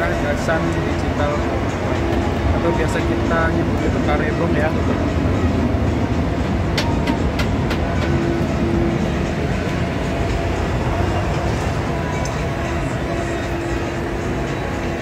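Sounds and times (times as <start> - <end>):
busy street rumble: 0.0 - 15.0
steady hum: 0.0 - 15.0.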